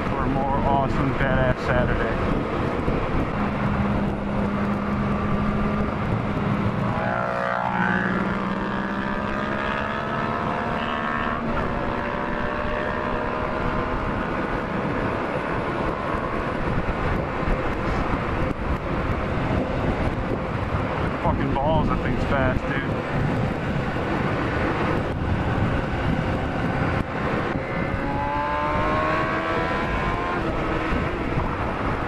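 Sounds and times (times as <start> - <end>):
wind rush: 0.0 - 32.0
motorcycle engine running: 2.1 - 32.0.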